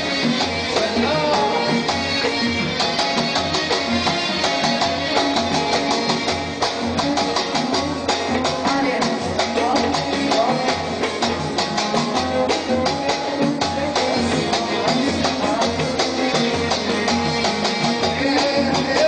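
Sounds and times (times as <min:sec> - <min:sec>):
hand percussion: 0:00.0 - 0:19.0
keyboard: 0:00.0 - 0:19.0.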